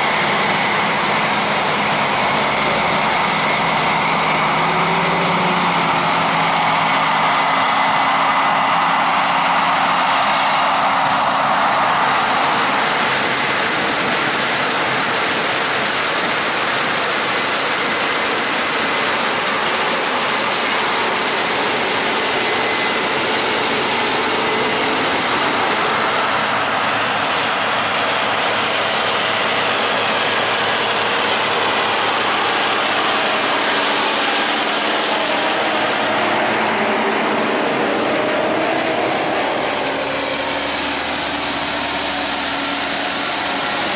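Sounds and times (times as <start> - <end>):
diesel farm machinery running: 0.0 - 43.9.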